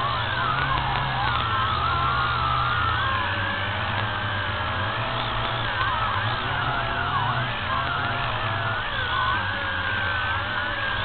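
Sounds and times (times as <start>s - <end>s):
quadcopter propellers whining: 0.0s - 11.0s
steady low hum: 0.0s - 11.0s.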